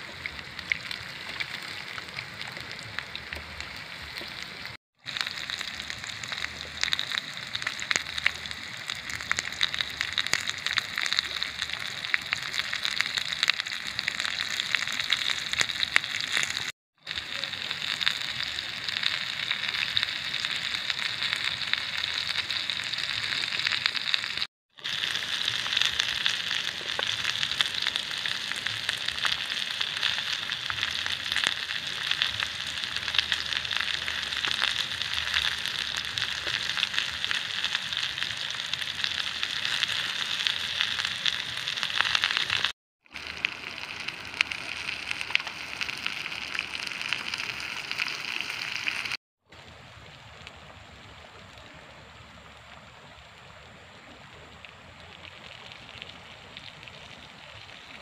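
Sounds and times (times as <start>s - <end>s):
potatoes sizzling in oil: 0.0s - 49.2s.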